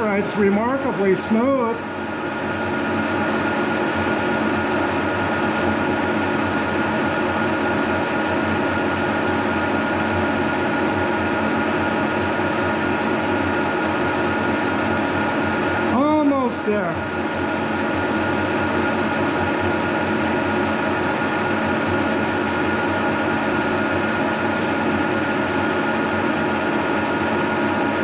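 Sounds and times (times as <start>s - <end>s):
milling machine whirring: 0.0s - 28.0s.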